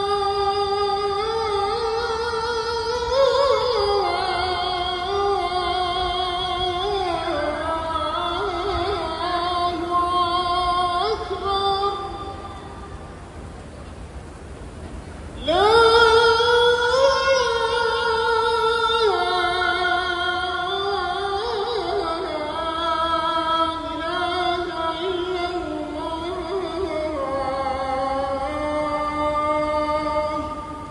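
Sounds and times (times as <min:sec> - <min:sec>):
person singing ornamented chant: 0:00.0 - 0:13.2, 0:15.4 - 0:30.9.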